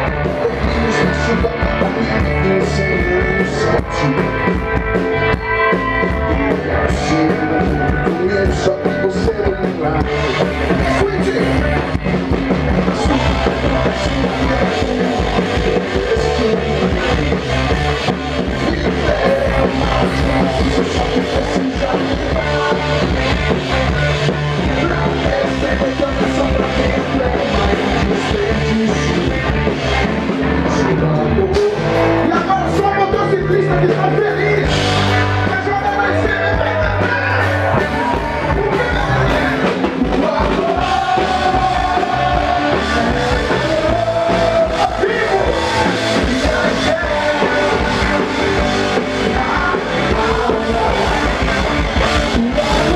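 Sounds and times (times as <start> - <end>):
live rock band playing: 0.0 - 52.9
person singing: 0.0 - 52.9.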